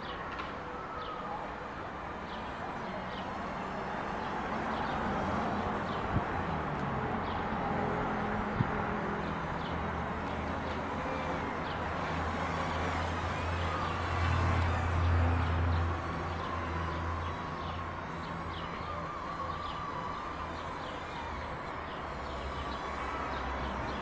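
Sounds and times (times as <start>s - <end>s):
passing vehicle rumble: 0.0s - 24.0s.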